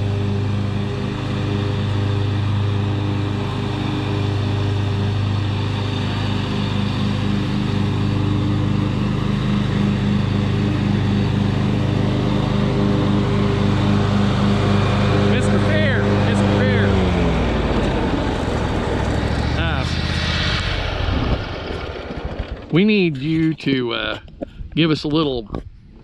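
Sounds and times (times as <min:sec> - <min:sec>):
riding lawn mower running: 0:00.0 - 0:24.6.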